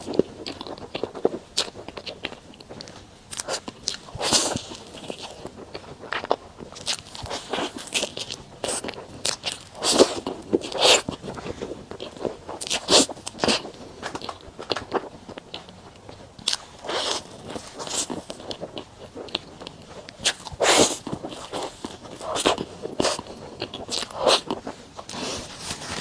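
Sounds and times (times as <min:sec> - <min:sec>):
chewing and mouth smacks: 0:00.0 - 0:26.0.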